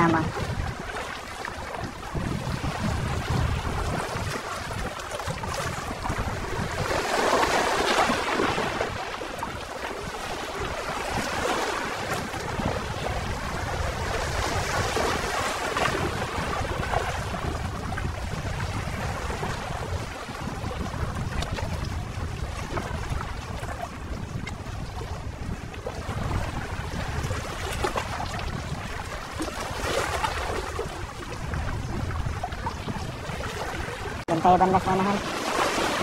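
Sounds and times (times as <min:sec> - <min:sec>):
waves washing over rocks: 0:00.0 - 0:36.0
wind on microphone: 0:00.0 - 0:36.0.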